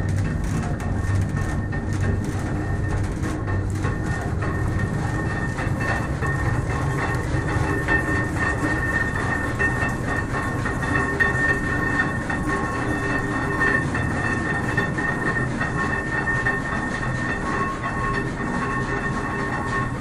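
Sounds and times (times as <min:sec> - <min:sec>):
high whine: 0:00.0 - 0:20.0
windmill machinery rumble and rattle: 0:00.0 - 0:20.0.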